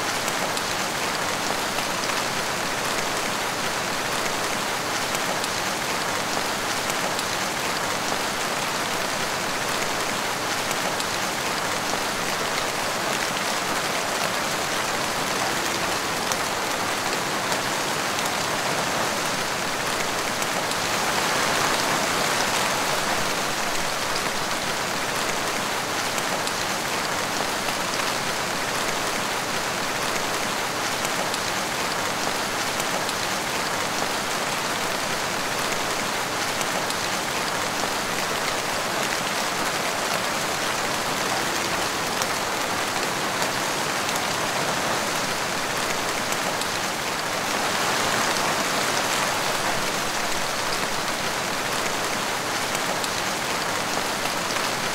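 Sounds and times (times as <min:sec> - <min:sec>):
rain on tiles: 0:00.0 - 0:54.9.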